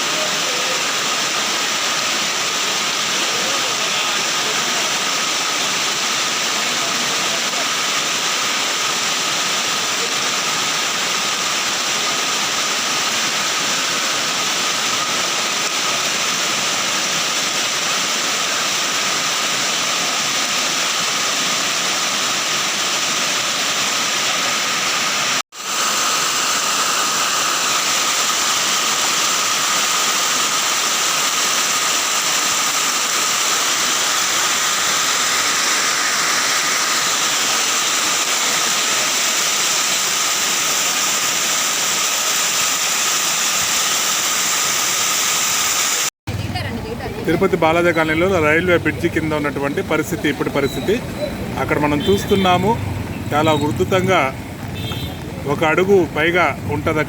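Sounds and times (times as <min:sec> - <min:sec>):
rushing floodwater roar: 0:00.0 - 0:57.0.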